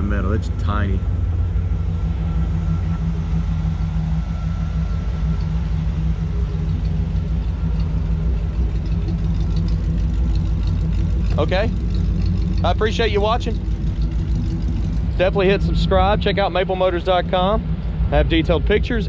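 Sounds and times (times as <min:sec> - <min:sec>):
faint high whine: 0:00.0 - 0:19.0
truck engine idling: 0:00.0 - 0:19.0.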